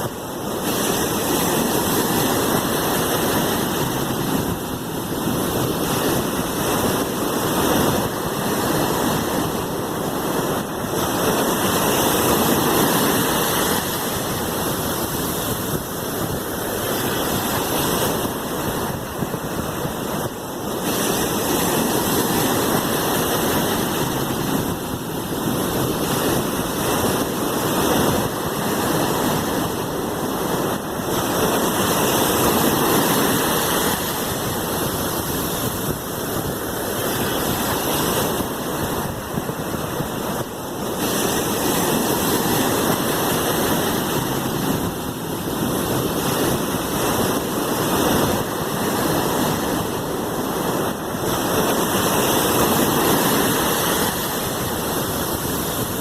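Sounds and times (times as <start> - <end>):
sea waves washing: 0.0 - 56.0.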